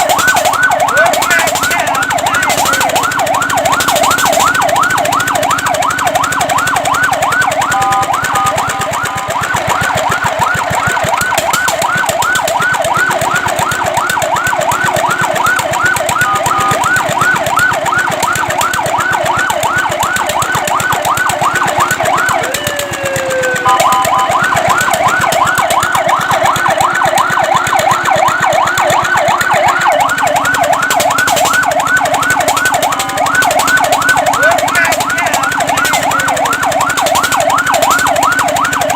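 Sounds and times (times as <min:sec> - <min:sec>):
fire truck siren yelping: 0:00.0 - 0:38.9.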